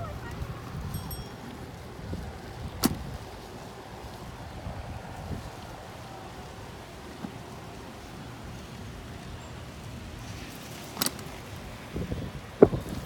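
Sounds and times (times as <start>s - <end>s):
wind and bicycle rolling noise: 0.0s - 13.0s.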